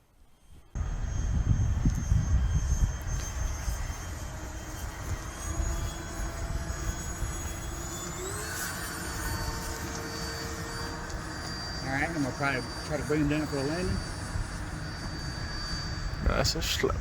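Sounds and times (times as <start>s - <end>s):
electric jet fan whine: 0.0s - 17.0s
wind rumble on microphone: 0.5s - 17.0s.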